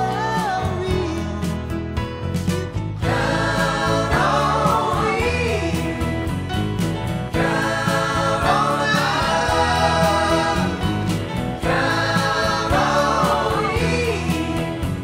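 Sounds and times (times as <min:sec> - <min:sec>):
song with vocals and beat: 0:00.0 - 0:15.0.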